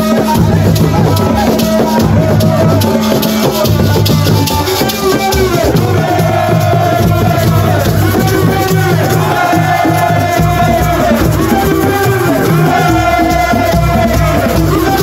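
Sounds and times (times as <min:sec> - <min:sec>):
drums: 0:00.0 - 0:15.0
rattling shaker: 0:00.0 - 0:15.0.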